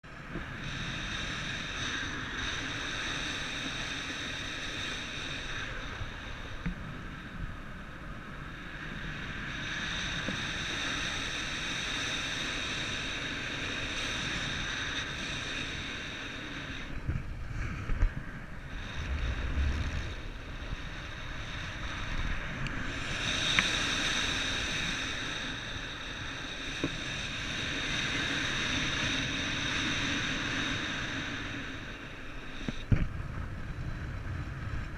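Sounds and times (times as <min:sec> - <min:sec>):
wind blowing with high whine: 0:00.0 - 0:34.9.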